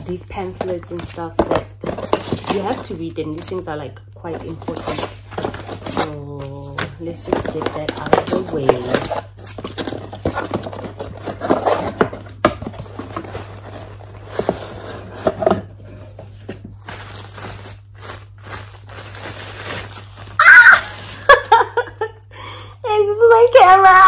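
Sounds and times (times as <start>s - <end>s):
cardboard flaps scraping and tapping: 0.0s - 3.7s, 4.3s - 20.1s
wrapping rustling and crinkling: 0.0s - 21.9s.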